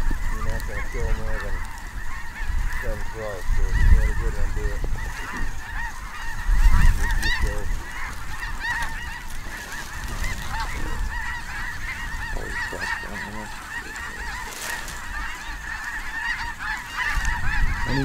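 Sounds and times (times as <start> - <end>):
geese calling: 0.0 - 18.0
wind rumble on microphone: 0.0 - 18.0.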